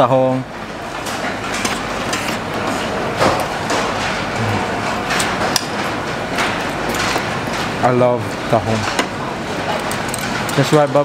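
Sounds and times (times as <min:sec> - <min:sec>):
restaurant background noise: 0:00.0 - 0:11.0.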